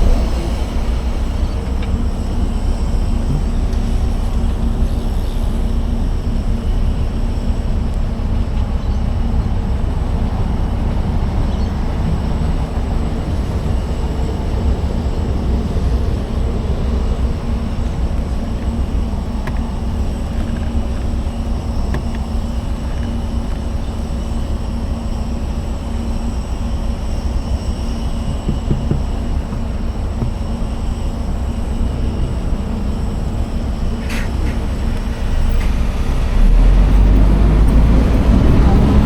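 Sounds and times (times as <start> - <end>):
wind and road rumble: 0.0 - 39.0.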